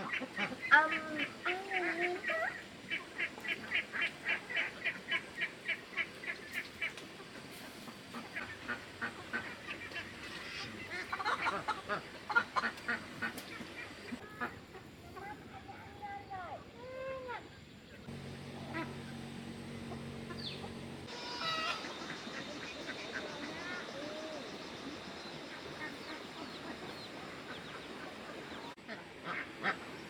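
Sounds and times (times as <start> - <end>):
ducks quacking: 0.0 - 14.9, 18.0 - 30.0.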